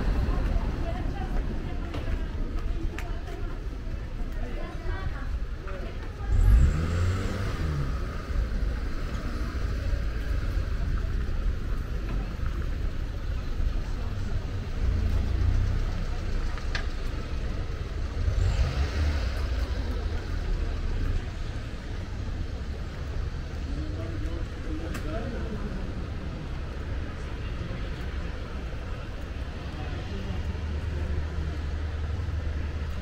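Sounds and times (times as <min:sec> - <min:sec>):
low uneven rumble: 0:00.0 - 0:33.0.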